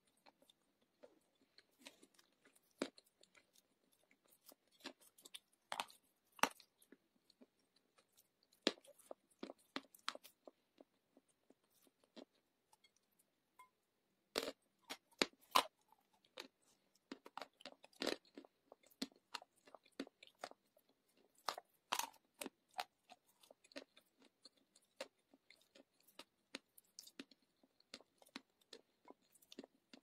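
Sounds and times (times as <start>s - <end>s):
person chewing clay: 0.0s - 30.0s.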